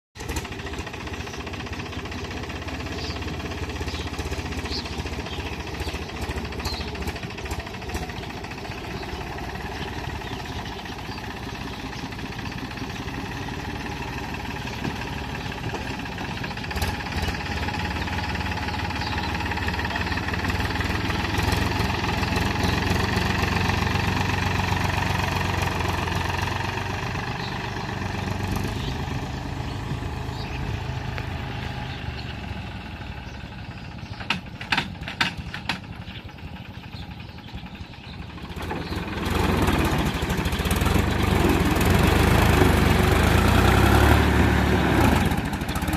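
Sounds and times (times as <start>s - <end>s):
tractor diesel engine running: 0.2s - 45.9s.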